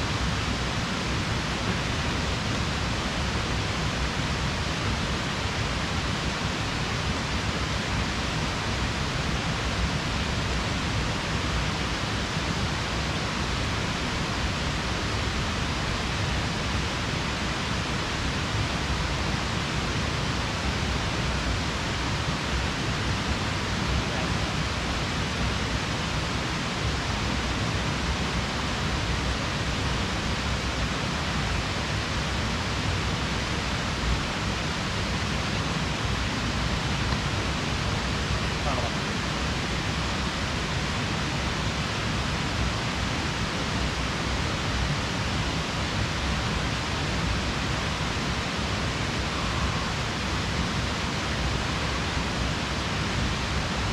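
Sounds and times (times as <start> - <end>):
steady rushing hiss: 0.0 - 53.9.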